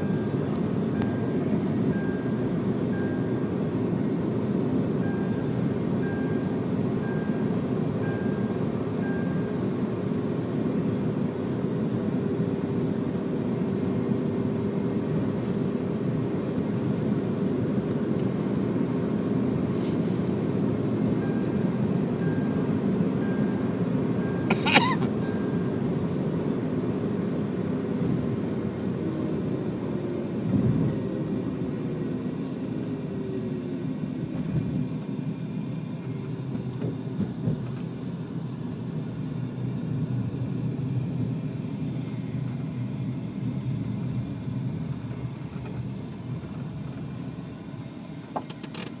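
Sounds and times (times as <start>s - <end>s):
car engine and road rumble: 0.0s - 49.0s.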